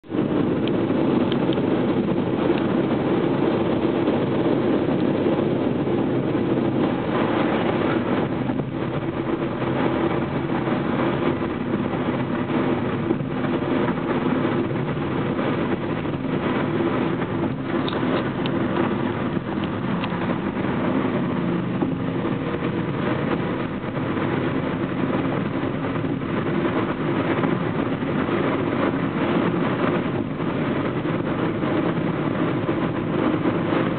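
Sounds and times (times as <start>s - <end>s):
road and engine noise in car: 0.0s - 33.9s.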